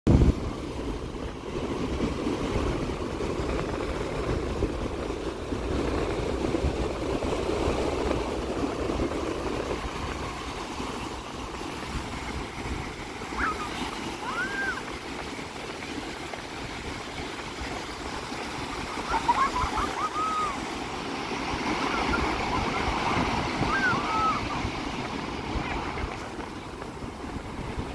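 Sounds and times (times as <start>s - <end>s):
sea waves breaking on shore: 0.1s - 27.9s
wind rumble on microphone: 0.1s - 27.9s.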